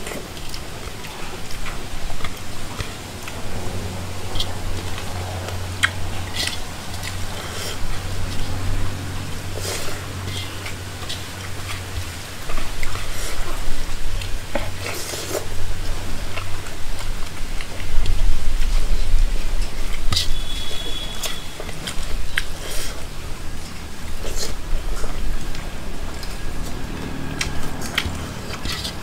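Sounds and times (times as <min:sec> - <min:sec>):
chewing and mouth sounds: 0:00.0 - 0:29.0
steady low hum: 0:00.0 - 0:29.0.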